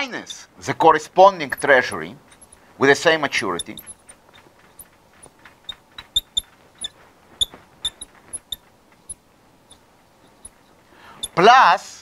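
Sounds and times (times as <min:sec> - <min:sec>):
marker squeaking on glass: 0:01.4 - 0:11.4.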